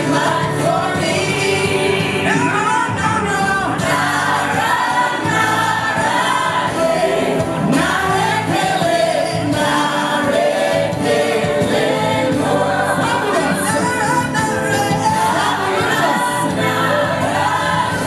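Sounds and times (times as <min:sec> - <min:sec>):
gospel choir singing over pa: 0:00.0 - 0:18.0.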